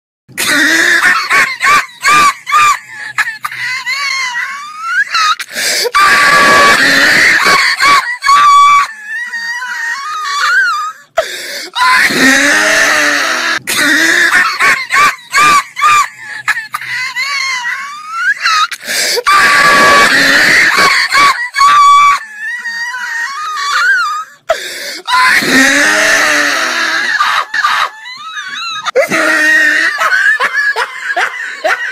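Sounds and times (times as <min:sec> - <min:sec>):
squealing wheezing laughter: 0:00.4 - 0:11.1, 0:11.7 - 0:31.9.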